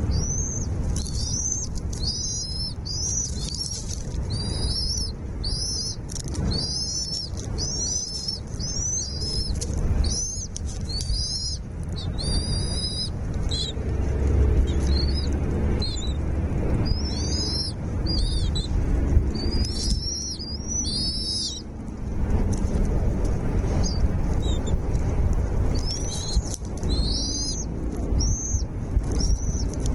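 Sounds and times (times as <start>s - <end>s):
small bird calling: 0.0s - 21.8s, 23.6s - 24.9s, 25.7s - 29.9s
low rumble: 0.0s - 29.9s.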